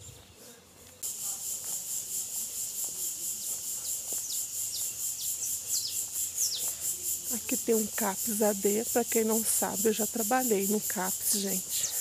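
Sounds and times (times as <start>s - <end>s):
insect chorus buzzing: 1.0s - 12.0s.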